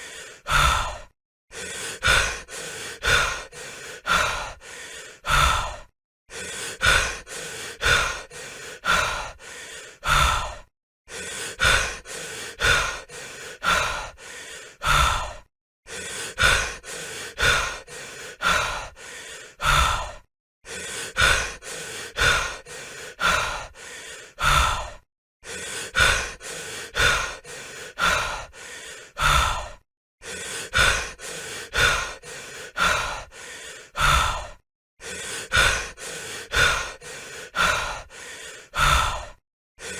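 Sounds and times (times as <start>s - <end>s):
person panting heavily: 0.0s - 39.9s.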